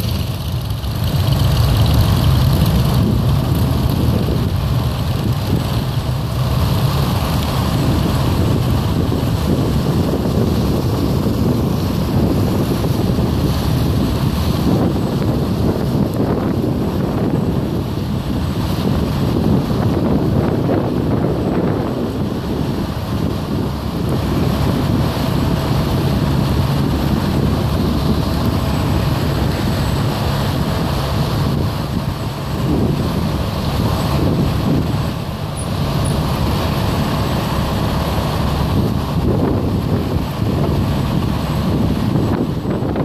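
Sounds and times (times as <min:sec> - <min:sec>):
vehicle engines humming: 0:00.0 - 0:43.0
wind buffeting microphone: 0:00.0 - 0:43.0.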